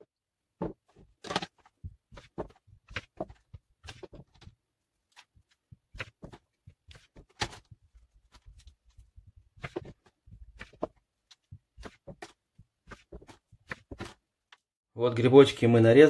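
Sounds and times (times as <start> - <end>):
plastic tray handling: 0.6 - 14.2.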